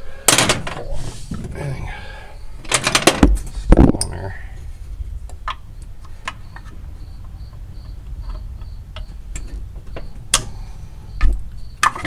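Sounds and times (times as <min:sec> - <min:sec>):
cricket chirping: 0:00.0 - 0:12.0
steady low hum: 0:00.0 - 0:12.0.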